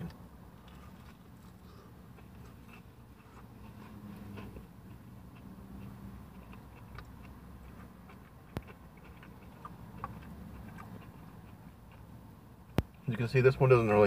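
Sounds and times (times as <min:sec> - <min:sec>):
low background hum: 0:00.0 - 0:14.0
man chewing: 0:00.6 - 0:13.1.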